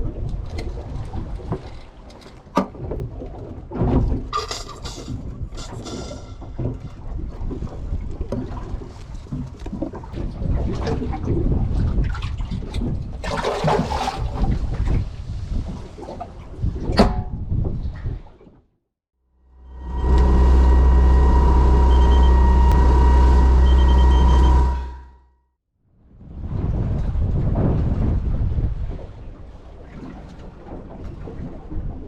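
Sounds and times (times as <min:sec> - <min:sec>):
wind and water rumble: 0:00.0 - 0:18.7, 0:19.4 - 0:25.2, 0:25.8 - 0:32.0.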